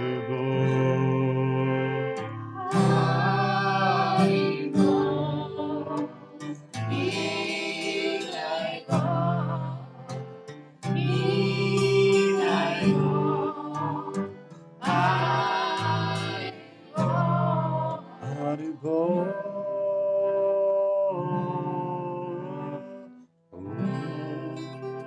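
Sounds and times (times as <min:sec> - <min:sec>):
voices singing a chant: 0:00.0 - 0:23.0
acoustic guitar: 0:00.0 - 0:25.0.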